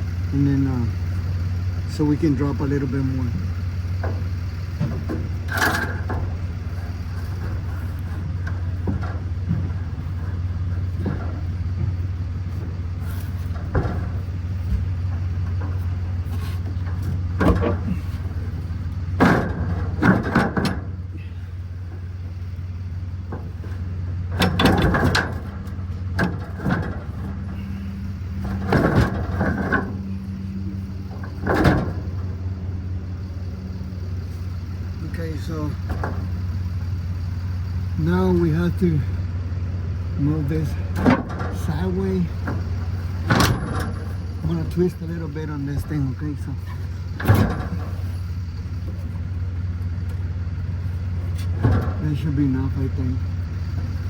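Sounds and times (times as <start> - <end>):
steady low hum: 0.0 - 54.0
metal clanks and scrapes: 3.4 - 22.1, 23.2 - 39.4, 40.4 - 53.0.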